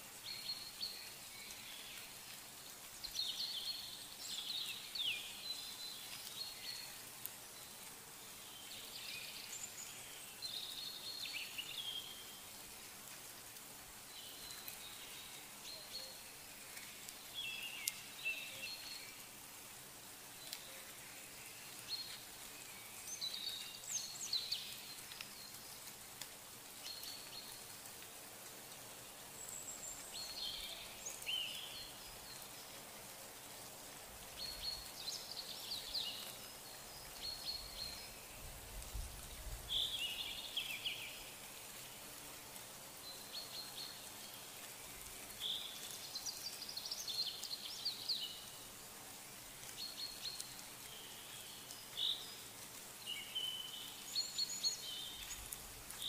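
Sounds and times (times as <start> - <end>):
faint outdoor hiss: 0.0 - 56.0
small birds chirping: 0.0 - 56.0.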